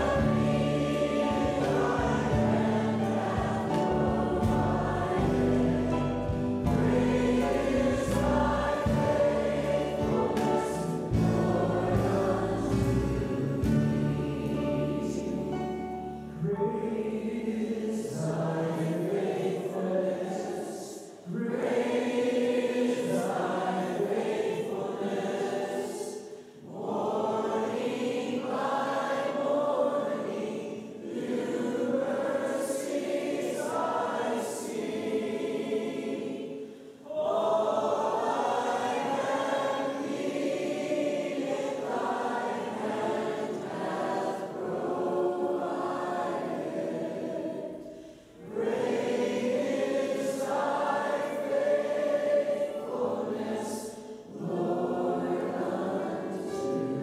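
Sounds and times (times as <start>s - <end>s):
choir singing worship song: 0.0s - 57.0s.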